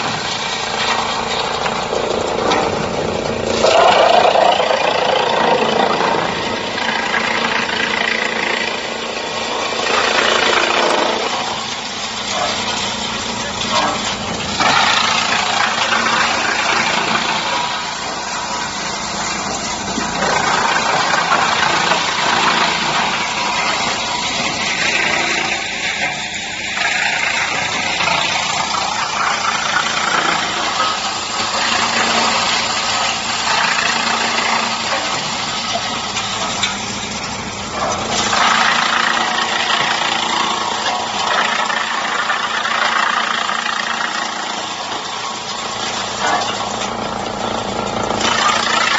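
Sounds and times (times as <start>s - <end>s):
wood chipper grinding: 0.0s - 48.9s.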